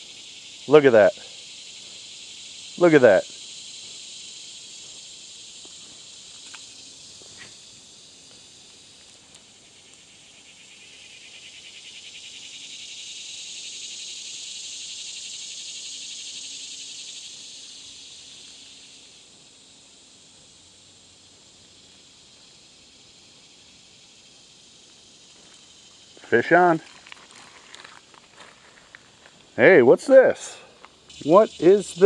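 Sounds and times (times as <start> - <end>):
cicada buzzing: 0.0 - 32.0
insects droning: 0.0 - 32.0.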